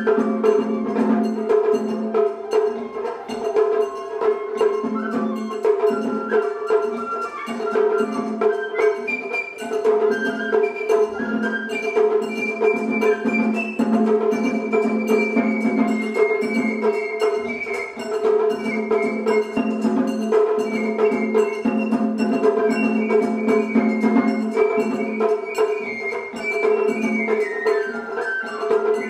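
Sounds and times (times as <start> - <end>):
bamboo flute melody: 0.0 - 29.0
drum strokes: 0.0 - 29.0.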